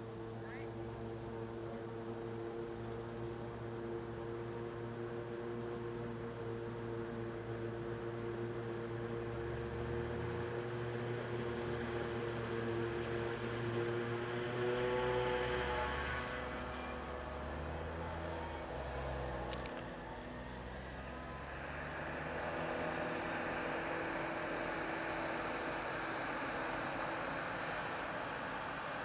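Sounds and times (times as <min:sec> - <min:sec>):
farm machinery engine drone: 0:00.0 - 0:29.0
steady machine whine: 0:00.0 - 0:29.0.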